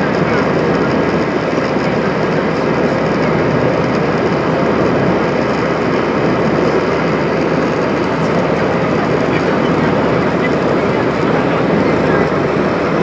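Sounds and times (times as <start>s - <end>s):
jet engine roar in cabin: 0.0s - 13.0s.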